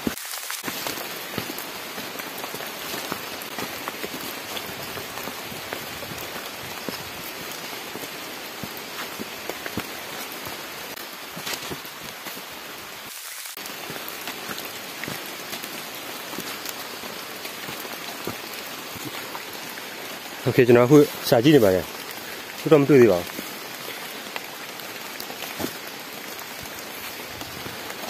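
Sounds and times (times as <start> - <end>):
rain on leaves: 0.0 - 28.0.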